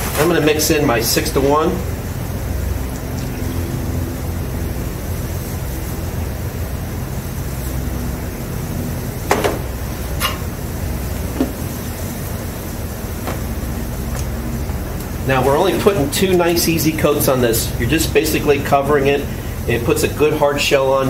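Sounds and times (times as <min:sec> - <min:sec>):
ventilation hum: 0:00.0 - 0:21.0.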